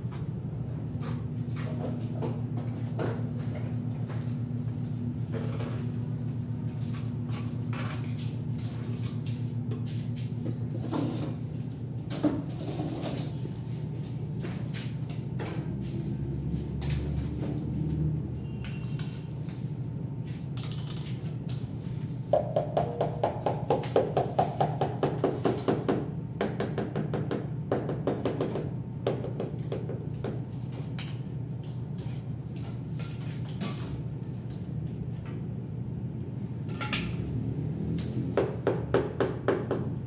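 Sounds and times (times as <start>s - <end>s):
steady low hum: 0.0s - 38.7s.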